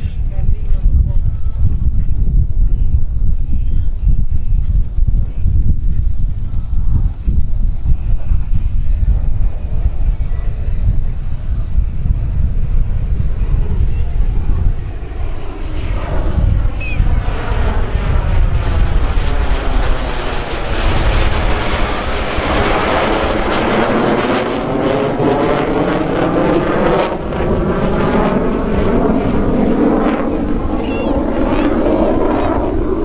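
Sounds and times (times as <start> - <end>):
propeller engines droning: 0.0 - 33.0
wind buffeting microphone: 0.0 - 33.0
jet engines roaring: 4.7 - 33.0.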